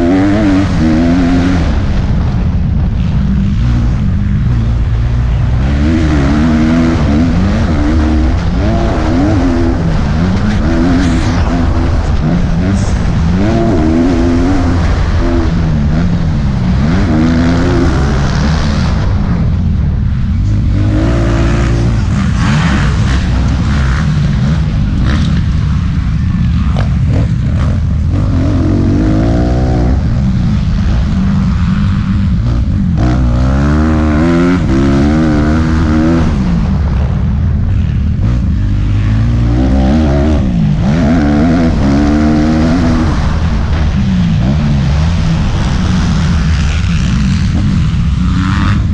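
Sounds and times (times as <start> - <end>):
motocross bike engine racing: 0.0 - 48.9.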